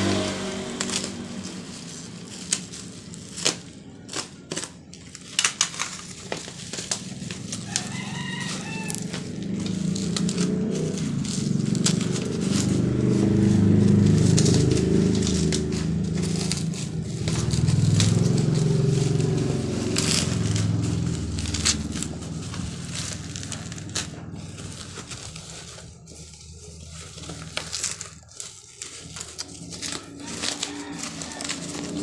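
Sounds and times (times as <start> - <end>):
plastic bag crinkling and tearing: 0.0 - 32.0.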